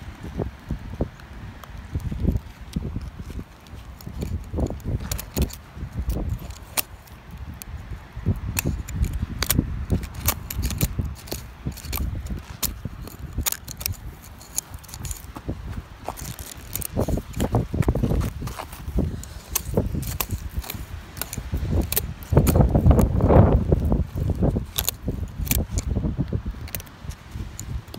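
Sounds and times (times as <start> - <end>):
screwdriver scraping gritty soil: 0.4 - 27.9.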